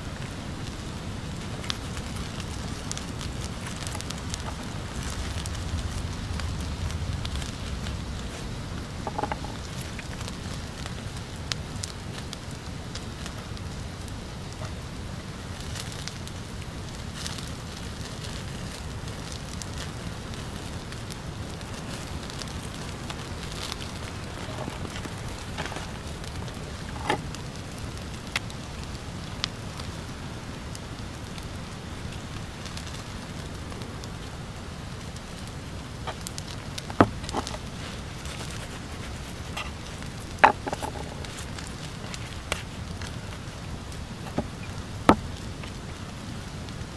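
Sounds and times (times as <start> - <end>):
fire popping: 0.0 - 46.9
wood fire crackling: 0.0 - 46.9.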